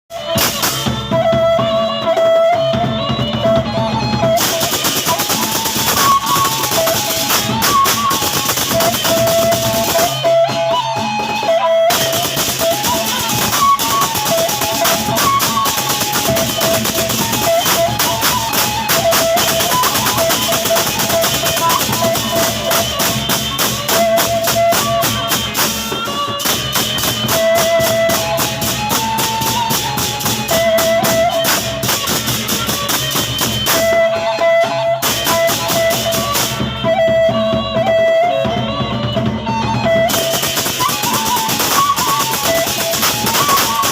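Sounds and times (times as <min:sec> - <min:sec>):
melody over drums: 0:00.1 - 0:43.9
drums in fast dense beat: 0:02.7 - 0:10.2, 0:11.9 - 0:34.0, 0:35.0 - 0:37.6, 0:38.7 - 0:43.9.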